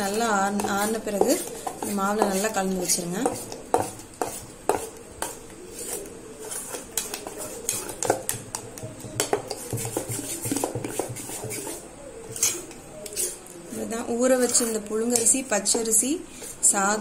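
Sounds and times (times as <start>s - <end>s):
spoon scraping steel bowl: 0.0s - 8.4s, 9.5s - 16.8s.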